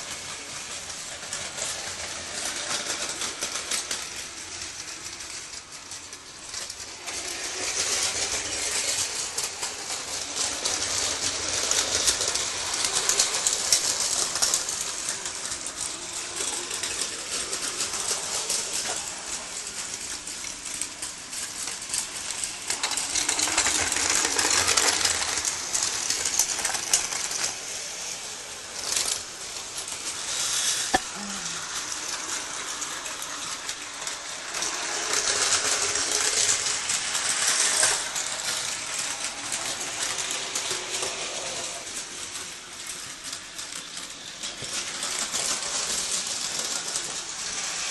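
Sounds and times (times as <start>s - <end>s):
toy trains whirring rattle: 0.0s - 47.9s.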